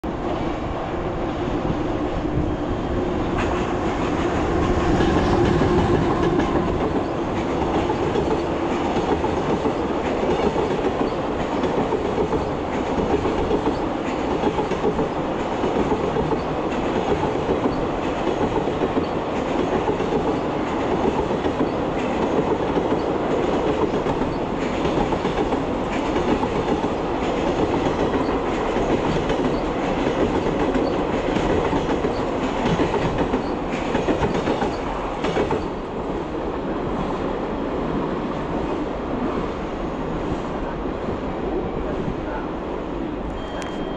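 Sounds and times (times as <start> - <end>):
freight train rumbling past: 0.0 - 43.7.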